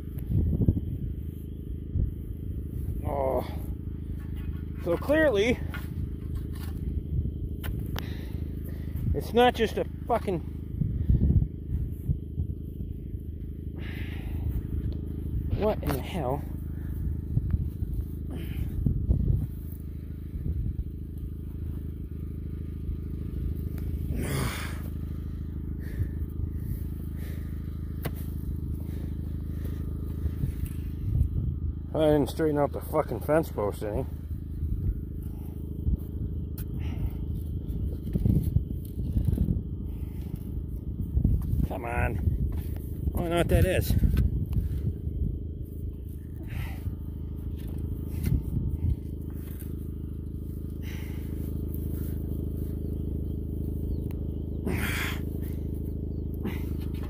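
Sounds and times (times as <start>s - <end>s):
utility vehicle engine idling: 0.0s - 57.0s.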